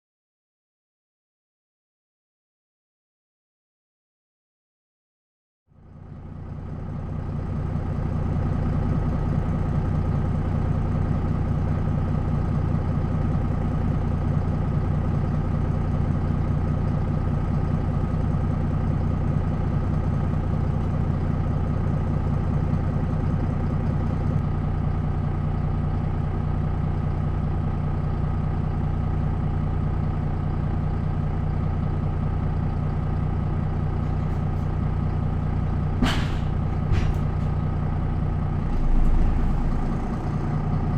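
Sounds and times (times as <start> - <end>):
bus diesel engine idling: 5.7 - 40.9.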